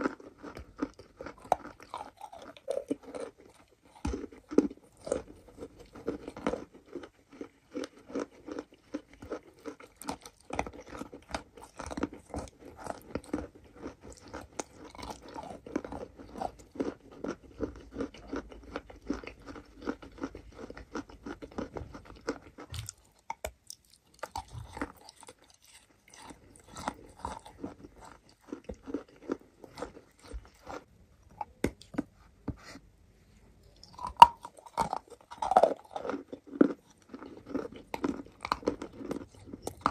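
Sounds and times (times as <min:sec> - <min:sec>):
chewing crunchy chalk: 0:00.0 - 0:32.8, 0:33.8 - 0:39.9.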